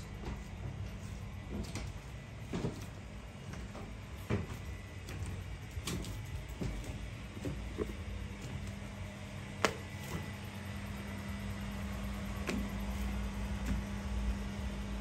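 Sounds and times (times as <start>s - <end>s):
footsteps on wooden decking: 0.0s - 10.6s, 12.3s - 14.3s
steady low hum: 0.0s - 15.0s.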